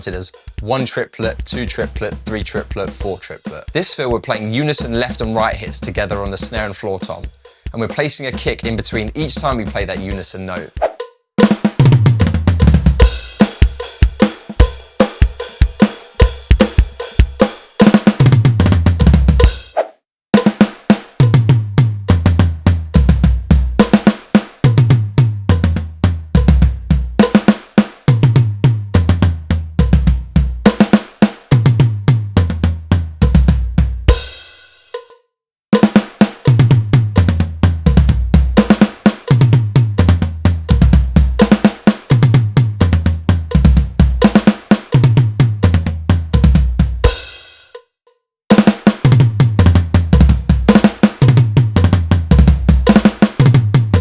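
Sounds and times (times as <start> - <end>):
drum kit playing: 0.0 - 35.2, 35.8 - 47.8, 48.5 - 54.0.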